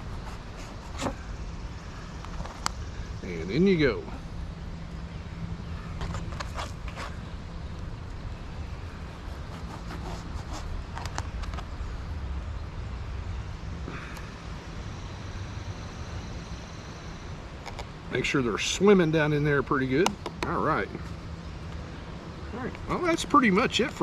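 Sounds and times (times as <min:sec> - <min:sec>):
low motor hum: 0:00.0 - 0:19.5.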